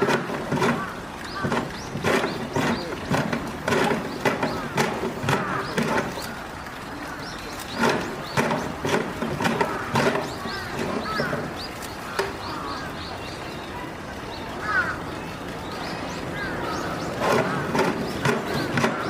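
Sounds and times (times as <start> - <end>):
murmur of voices: 0.0 - 19.0
small birds chirping: 0.0 - 19.0.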